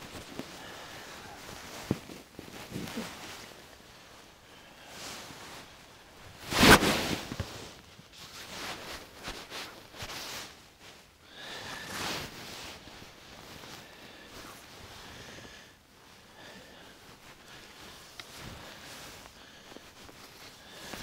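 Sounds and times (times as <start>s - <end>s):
rustling and shuffling of gear: 0.0s - 21.0s.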